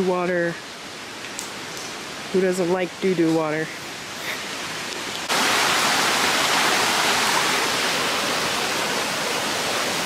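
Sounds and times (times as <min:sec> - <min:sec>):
stream water rushing: 0:00.0 - 0:10.0.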